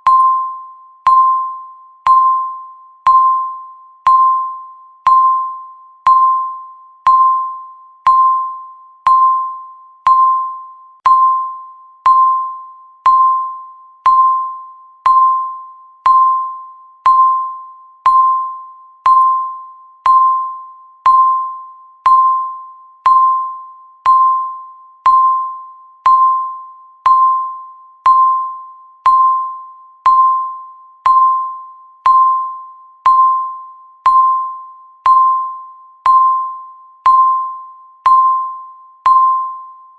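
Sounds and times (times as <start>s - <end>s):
electronic ding with click: 0.0s - 39.9s.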